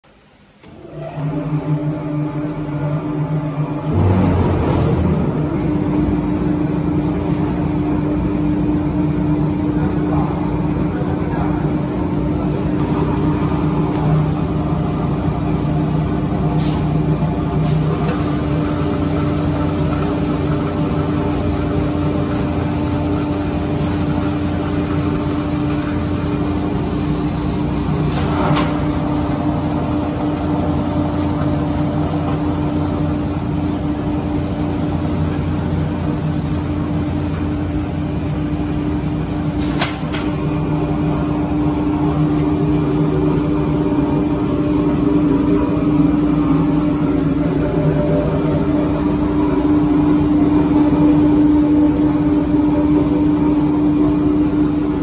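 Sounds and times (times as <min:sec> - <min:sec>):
machine humming: 0:00.1 - 0:55.0.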